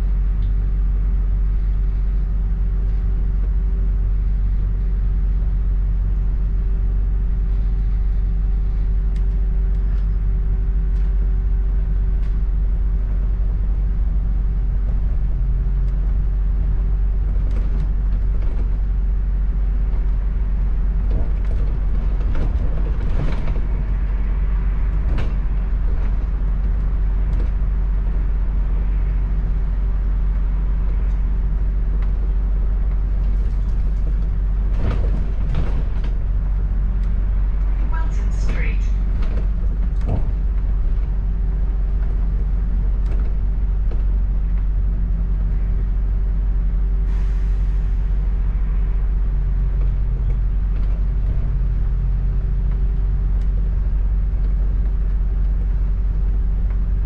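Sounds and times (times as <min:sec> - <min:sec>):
bus body creaks and rattles: 0:00.0 - 0:57.0
bus engine hum: 0:00.0 - 0:57.0.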